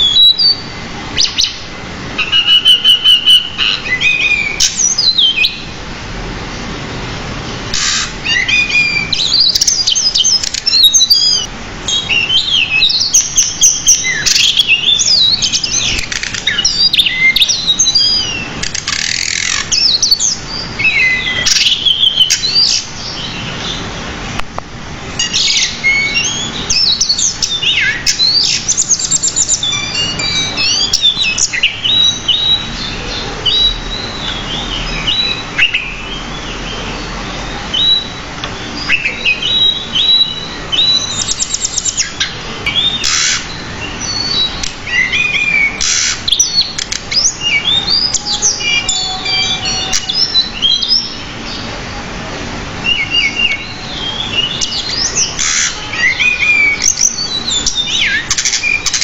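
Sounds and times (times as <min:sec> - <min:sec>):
bird singing: 0:00.0 - 0:05.8, 0:07.5 - 0:24.1, 0:25.1 - 0:52.0, 0:52.6 - 0:59.0.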